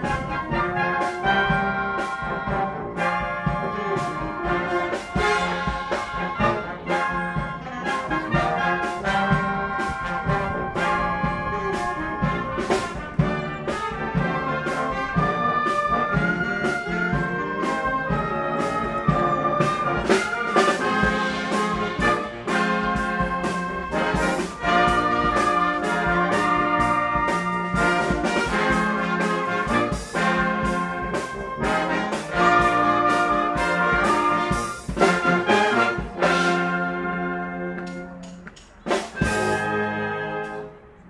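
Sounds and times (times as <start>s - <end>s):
steady drum beat: 0.0s - 39.8s
wind orchestra playing soul: 0.0s - 41.0s.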